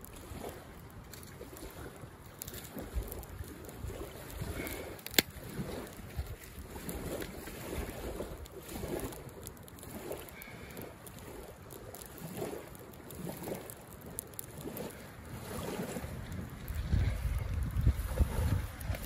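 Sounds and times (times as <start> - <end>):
sharp crack of fire: 0.0 - 19.0
wind noise on microphone: 0.0 - 19.0
wood fire burning: 0.0 - 19.0.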